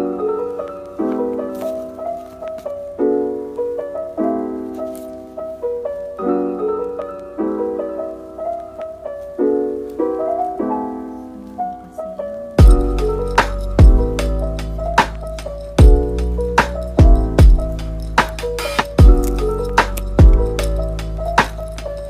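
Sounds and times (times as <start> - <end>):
gentle piano chords: 0.0 - 22.0.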